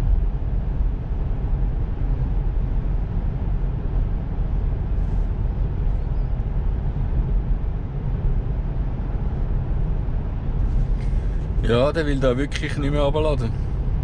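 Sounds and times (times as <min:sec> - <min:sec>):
low cabin rumble: 0:00.0 - 0:14.0
road and tyre noise: 0:00.0 - 0:14.0.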